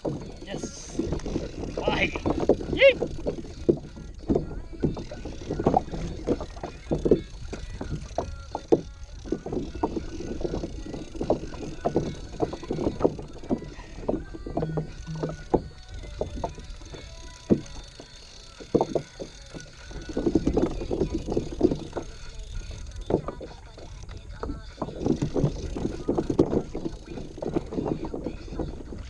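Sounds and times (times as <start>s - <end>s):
waves slapping kayak hull: 0.0s - 29.0s
wind and water rumble: 0.0s - 29.0s.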